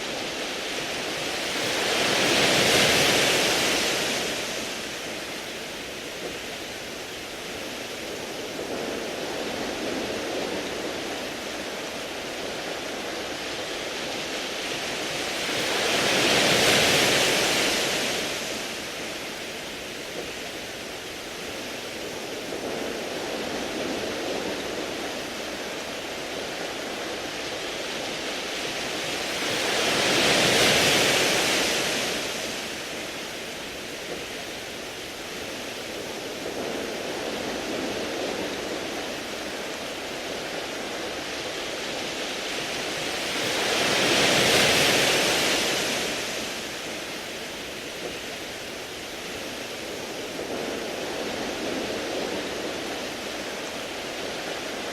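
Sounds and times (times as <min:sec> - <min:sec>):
waves washing onto pebbles: 0:00.0 - 0:54.9.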